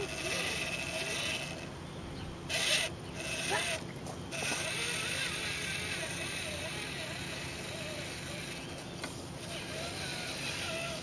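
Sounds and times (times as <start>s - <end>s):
toy car motor whirring: 0.0s - 1.8s, 2.4s - 11.0s.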